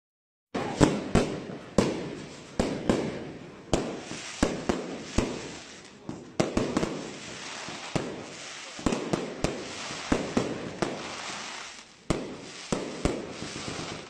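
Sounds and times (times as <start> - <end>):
fireworks bursting with loud bangs: 0.5 - 14.0.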